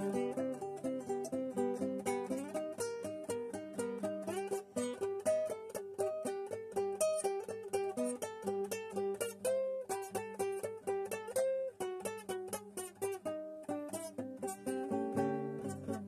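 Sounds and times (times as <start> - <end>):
acoustic guitar picking notes: 0.0 - 16.0.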